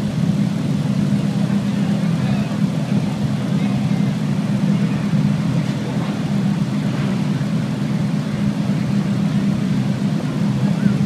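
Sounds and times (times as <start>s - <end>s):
sports car engines idling: 0.0s - 11.0s.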